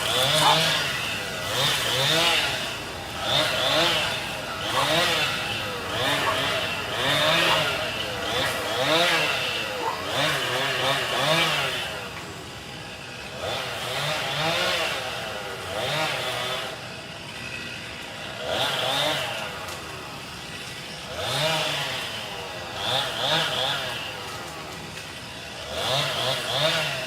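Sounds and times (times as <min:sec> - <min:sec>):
chainsaw engine revving: 0:00.0 - 0:27.0.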